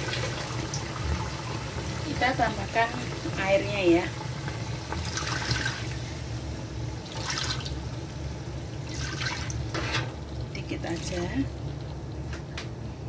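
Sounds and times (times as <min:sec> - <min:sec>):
water pouring into pan: 0:00.0 - 0:12.3.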